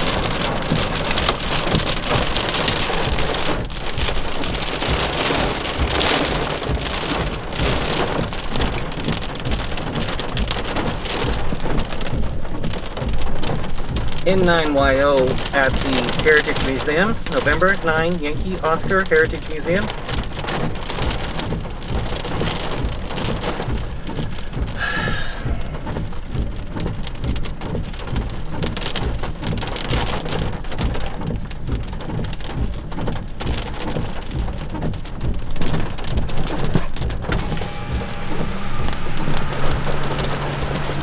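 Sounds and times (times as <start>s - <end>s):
heavy rain pelting down: 0.0s - 41.0s.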